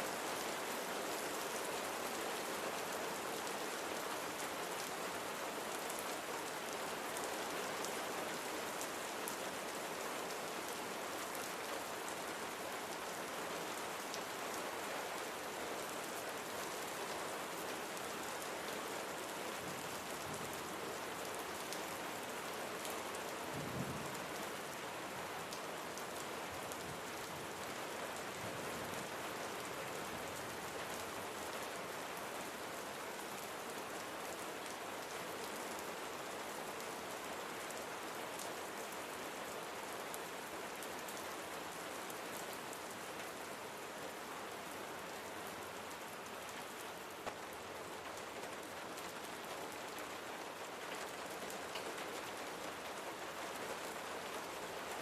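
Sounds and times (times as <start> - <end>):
steady rain on a surface: 0.0 - 55.0.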